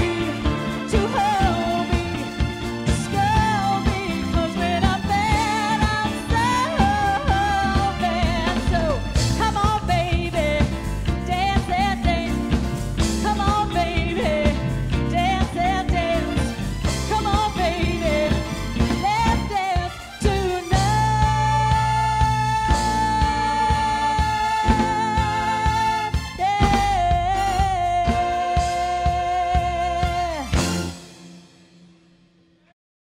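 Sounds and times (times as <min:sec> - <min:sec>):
woman singing: 0:00.0 - 0:30.6
bass guitar: 0:00.0 - 0:31.7
drum kit: 0:00.0 - 0:32.3
electric guitar: 0:00.0 - 0:32.7.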